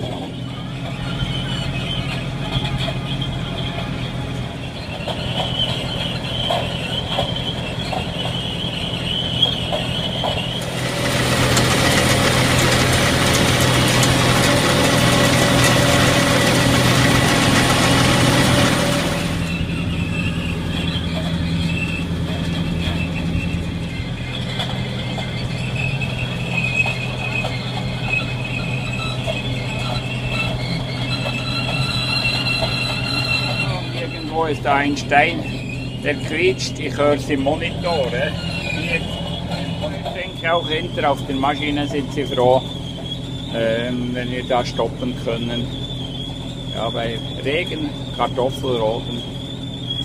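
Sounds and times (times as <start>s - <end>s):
high-pitched squealing: 0.0s - 50.0s
tractor engine running: 0.0s - 50.0s.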